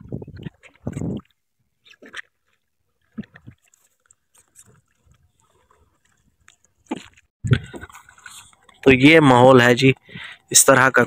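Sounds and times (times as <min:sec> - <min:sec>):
oars knocking and creaking: 0:00.0 - 0:11.0.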